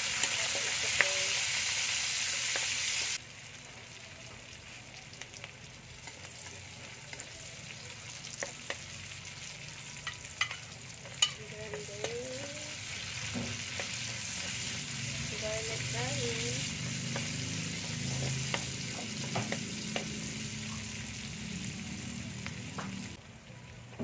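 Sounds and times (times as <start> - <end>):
aromatics sizzling in hot oil: 0.0 - 23.2.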